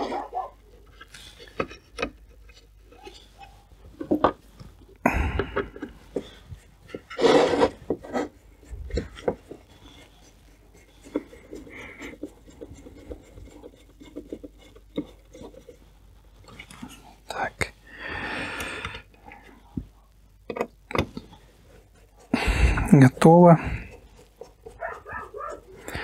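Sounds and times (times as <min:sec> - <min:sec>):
scraping rubs: 0:00.0 - 0:17.5, 0:20.9 - 0:26.0.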